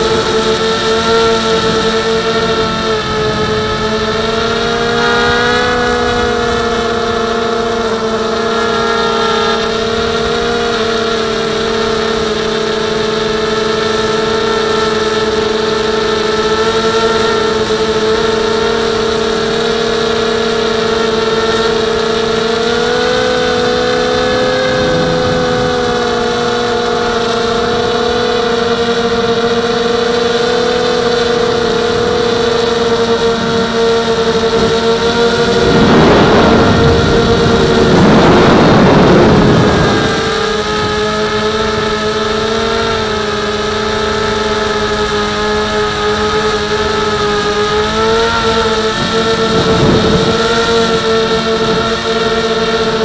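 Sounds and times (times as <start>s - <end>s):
quadcopter propellers humming: 0.0s - 53.0s.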